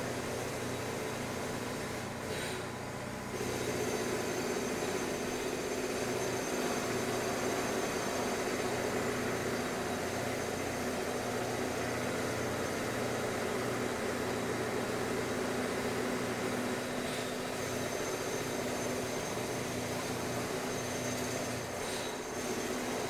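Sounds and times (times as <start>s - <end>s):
construction machinery engine running: 0.0s - 23.0s.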